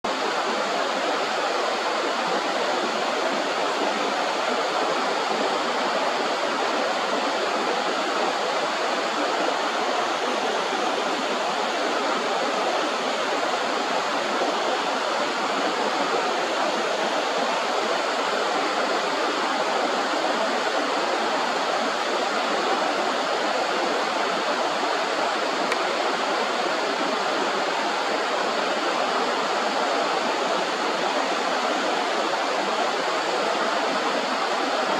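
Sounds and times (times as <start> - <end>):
flowing river water: 0.1 - 34.9.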